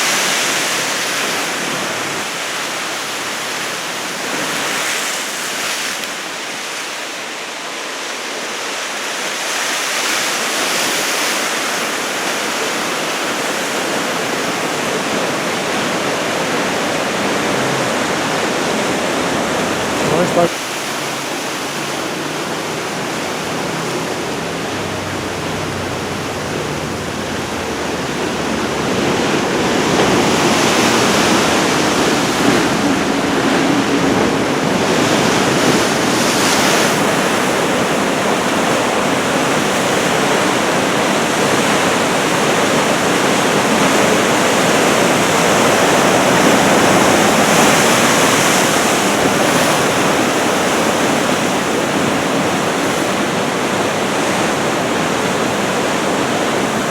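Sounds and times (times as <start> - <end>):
surf crashing on shore: 0.0 - 56.9.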